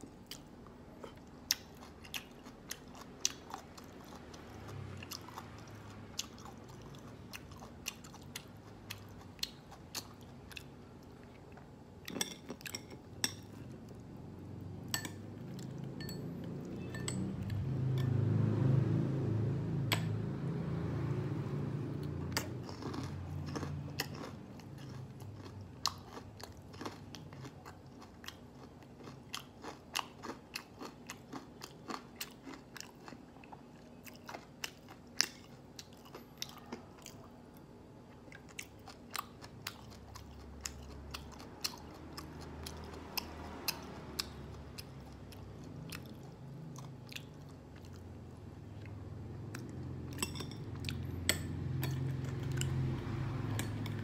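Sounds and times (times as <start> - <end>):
crunching and chewing food: 0.0 - 18.3, 21.9 - 54.0.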